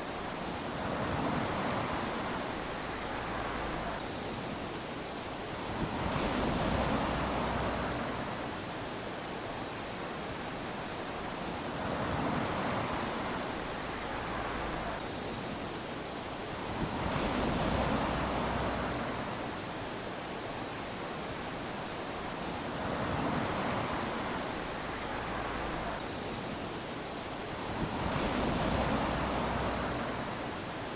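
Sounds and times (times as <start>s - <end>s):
small waves lapping on sand: 0.0s - 30.9s.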